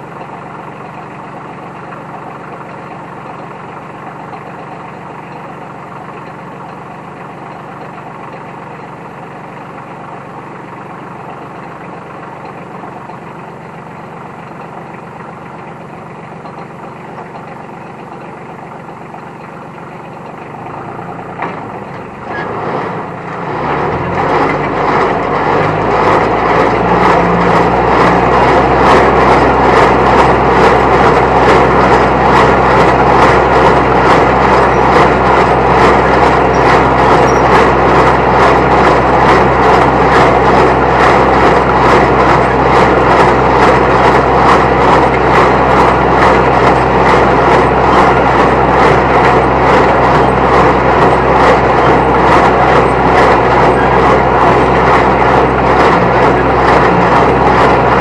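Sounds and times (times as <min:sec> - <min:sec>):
diesel tractor engine running: 0:00.0 - 0:58.0
hay baler clattering: 0:00.0 - 0:58.0.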